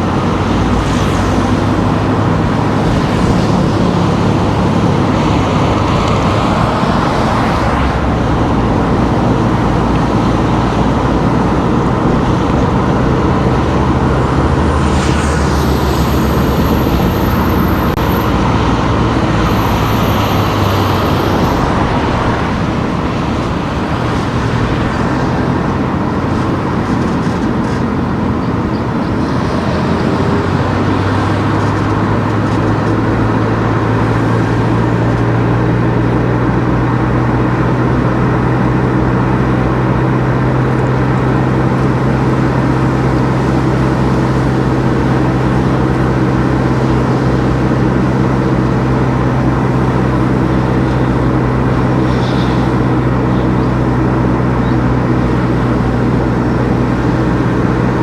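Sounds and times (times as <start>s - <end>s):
car engine humming: 0.0s - 58.0s
tyre noise on road: 0.0s - 58.0s.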